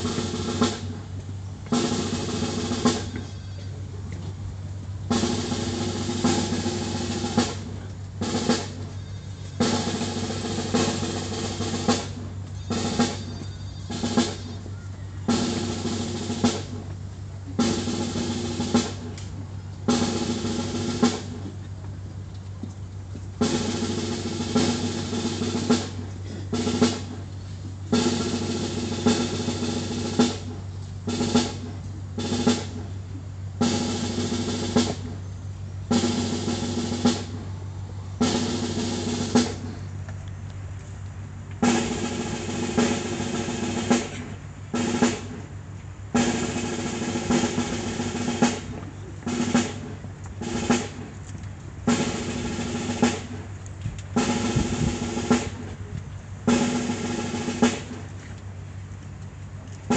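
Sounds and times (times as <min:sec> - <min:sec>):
snare drum rolls: 0:00.0 - 0:03.4, 0:05.0 - 0:21.9, 0:23.3 - 0:35.2, 0:35.8 - 0:39.9, 0:41.6 - 0:58.5.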